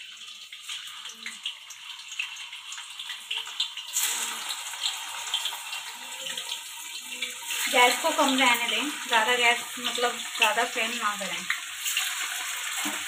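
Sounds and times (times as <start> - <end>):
paneer sizzling in hot oil: 0.0 - 13.0.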